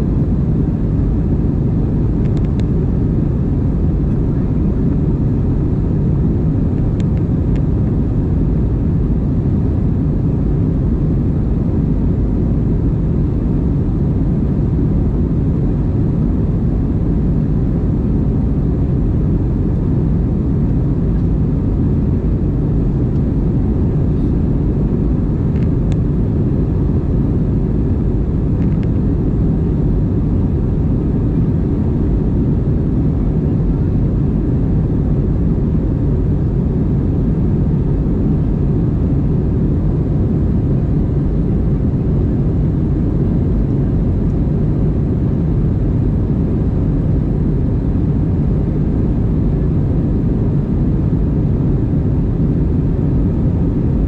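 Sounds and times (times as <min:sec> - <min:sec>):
aircraft engines and airflow rumble: 0:00.0 - 0:54.0.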